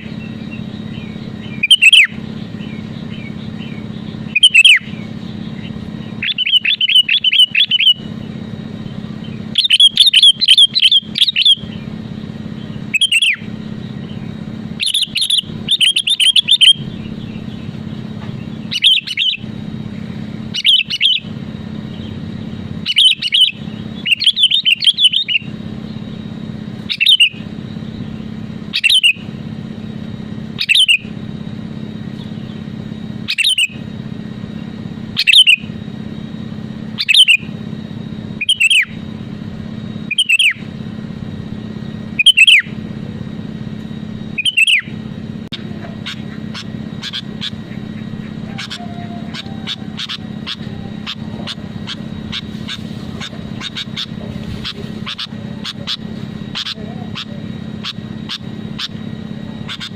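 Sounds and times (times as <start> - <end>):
bulbul calling: 0.0 - 59.9
steady low hum: 0.0 - 59.9.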